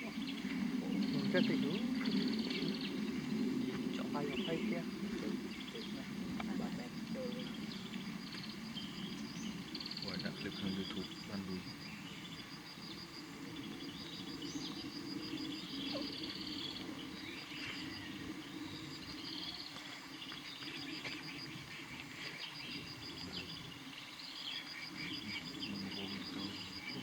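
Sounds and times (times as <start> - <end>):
forest birds chirping: 0.0 - 27.0
steady low hum: 0.0 - 27.0.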